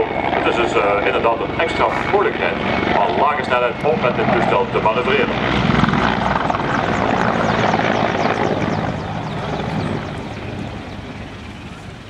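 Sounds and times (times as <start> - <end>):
helicopter rotor blades beating: 0.0 - 12.0.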